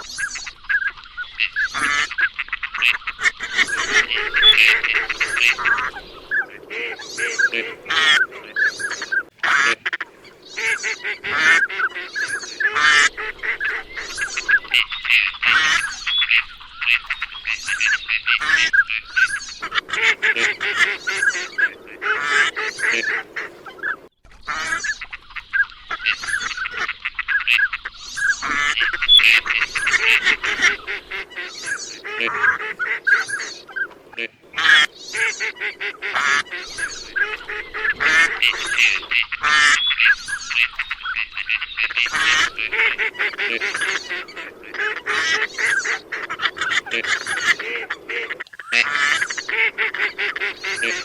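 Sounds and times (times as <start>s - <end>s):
ducks calling: 0.0s - 51.0s
geese honking: 0.0s - 51.0s.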